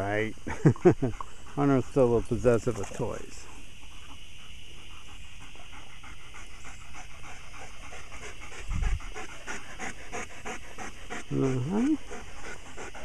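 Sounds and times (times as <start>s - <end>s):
dog panting: 0.8s - 13.0s.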